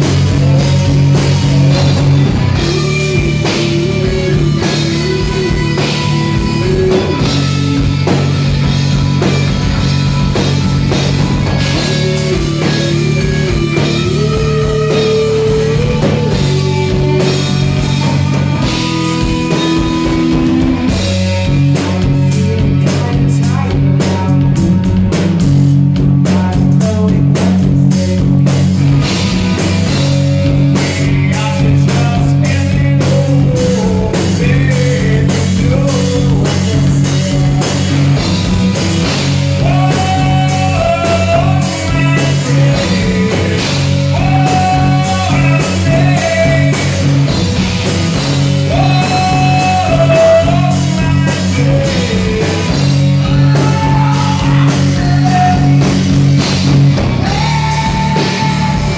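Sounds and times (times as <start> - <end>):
bass guitar: 0.0 - 58.9
drum kit beat: 0.0 - 58.9
electric guitars: 0.0 - 58.9
man singing: 0.0 - 58.9.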